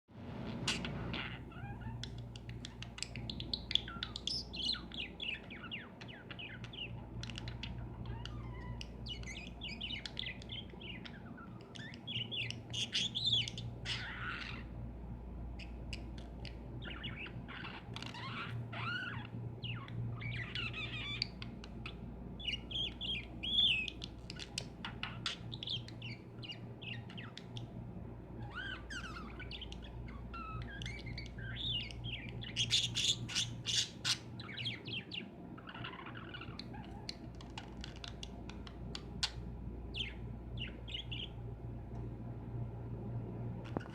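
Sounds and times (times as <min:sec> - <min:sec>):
steady low hum: 0:00.1 - 0:43.9
lovebirds chirping and squawking: 0:00.3 - 0:41.9, 0:43.6 - 0:43.9.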